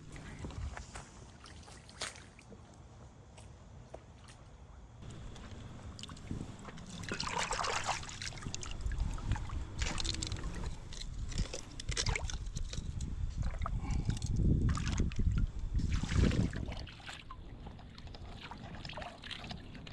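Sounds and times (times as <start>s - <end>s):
water splashing and sloshing: 0.0s - 19.9s.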